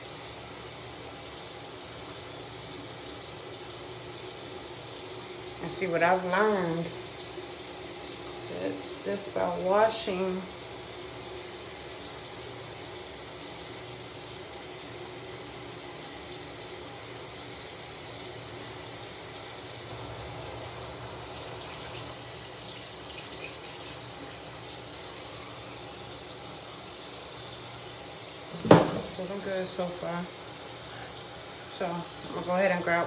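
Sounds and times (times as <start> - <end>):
water running from tap: 0.0 - 33.0.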